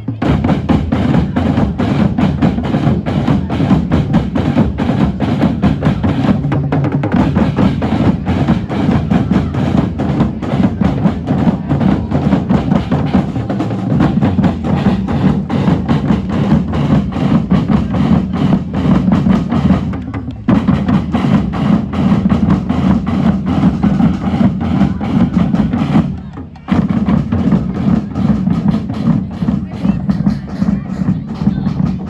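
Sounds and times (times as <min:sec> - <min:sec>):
drumming band: 0:00.0 - 0:32.0.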